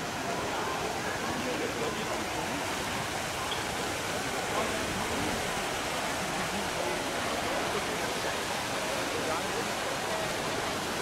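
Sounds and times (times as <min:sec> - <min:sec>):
crowd talking: 0:00.0 - 0:11.0
fountain water rushing: 0:00.0 - 0:11.0.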